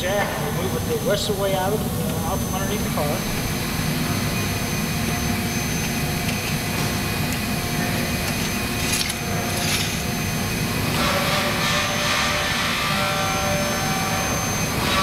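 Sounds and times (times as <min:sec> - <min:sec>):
steady background roar: 0:00.0 - 0:15.0.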